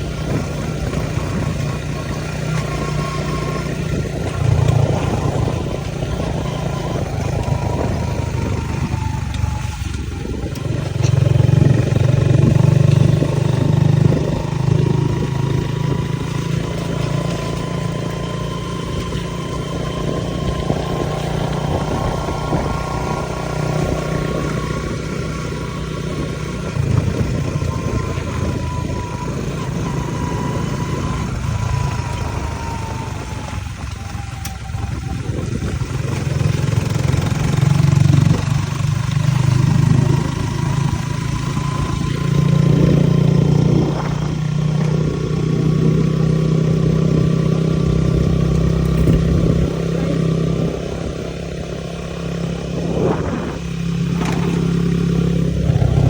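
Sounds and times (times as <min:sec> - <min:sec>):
harvester engine running: 0:00.0 - 0:56.0.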